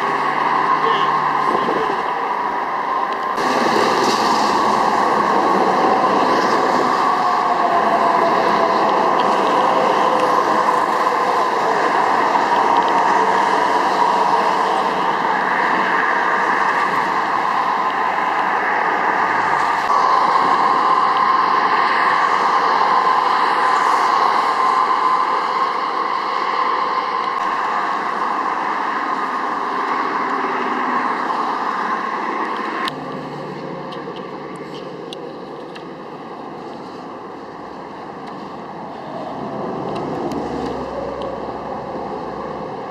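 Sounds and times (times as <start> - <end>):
highway traffic passing: 0.0 - 42.9.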